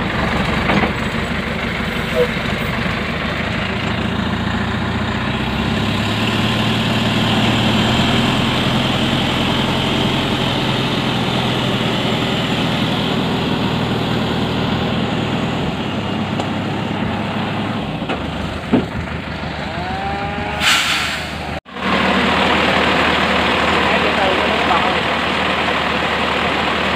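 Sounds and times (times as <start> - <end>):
truck diesel engine running: 0.0 - 26.9.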